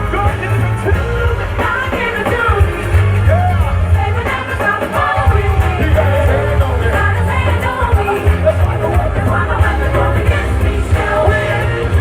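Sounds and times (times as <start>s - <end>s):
heavy steady bass: 0.0s - 4.4s, 5.2s - 12.0s.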